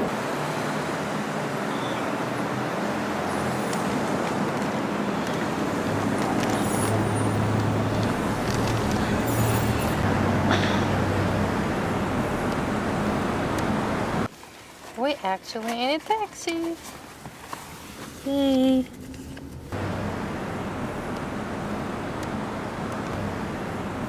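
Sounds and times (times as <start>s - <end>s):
vehicle engine running nearby: 0.0s - 14.3s, 17.5s - 24.0s
road noise: 0.0s - 24.0s.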